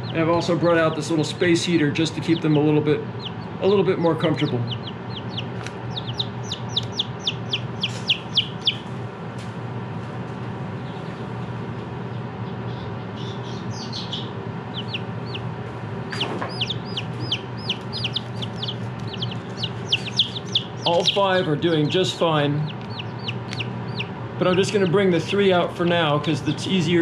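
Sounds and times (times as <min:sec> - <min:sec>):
baby chicks peeping: 0:00.0 - 0:09.0, 0:10.8 - 0:11.4, 0:12.0 - 0:27.0
heater fan hum: 0:00.0 - 0:27.0.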